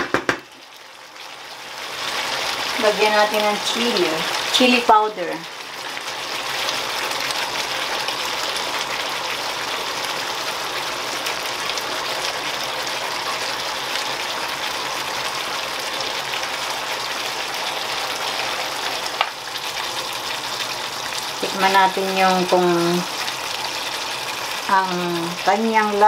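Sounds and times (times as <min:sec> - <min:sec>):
food sizzling in frying pan: 0:00.0 - 0:26.0.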